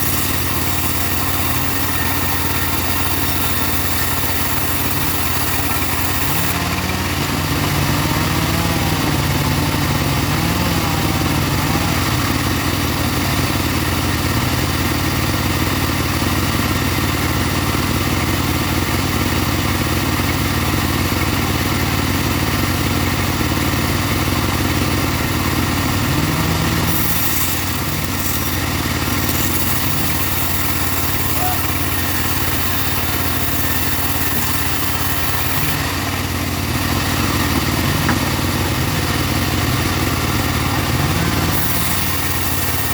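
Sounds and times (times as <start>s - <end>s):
bandsaw mill sawing wood: 0.0s - 42.9s.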